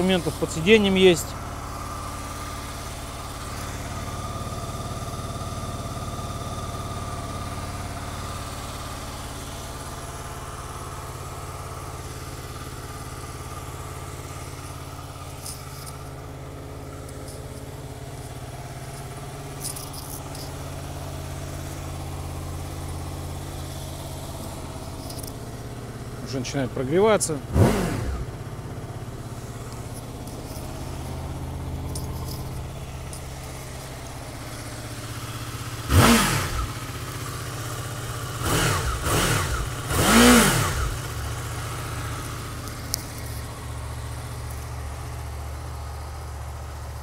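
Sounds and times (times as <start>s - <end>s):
motorcycle engine idling: 0.0s - 47.0s.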